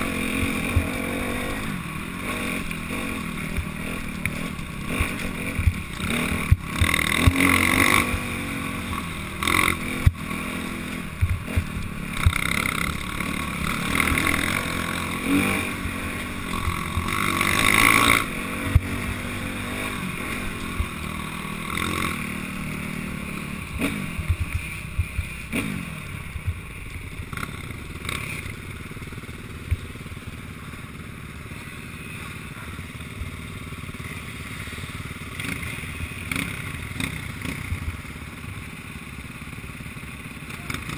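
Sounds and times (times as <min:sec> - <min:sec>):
dirt bike engine revving: 0:00.0 - 0:30.5, 0:31.2 - 0:38.9.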